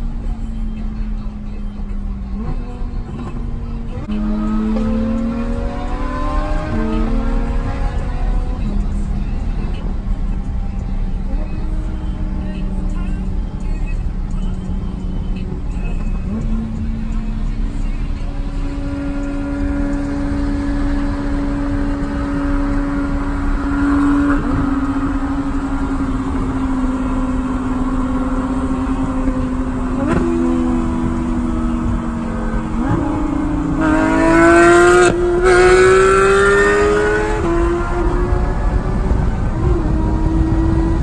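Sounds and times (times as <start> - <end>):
sports car engines accelerating: 0.0 - 41.0.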